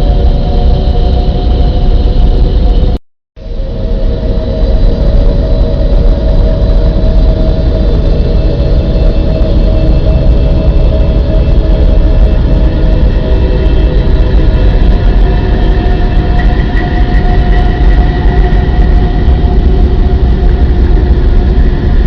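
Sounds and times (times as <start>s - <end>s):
low rumbling drone: 0.0s - 22.0s
faint steady tones: 0.1s - 22.0s.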